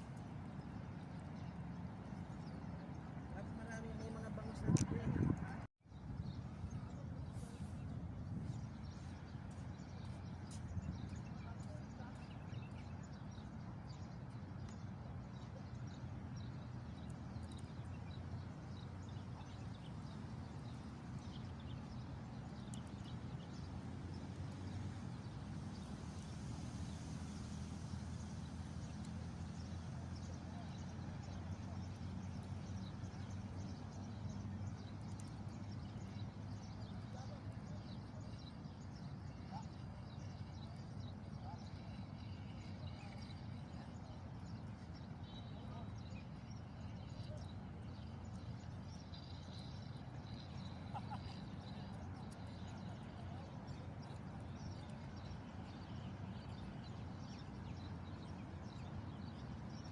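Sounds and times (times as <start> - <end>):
faint high chirps and ticks: 0.0 - 59.9
low outdoor hum: 0.0 - 59.9.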